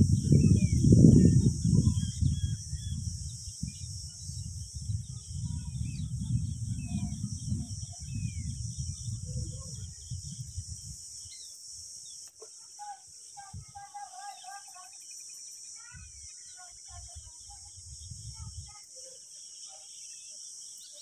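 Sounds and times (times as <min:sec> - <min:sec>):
high insect drone: 0:00.0 - 0:21.0
small birds chirping: 0:00.0 - 0:21.0.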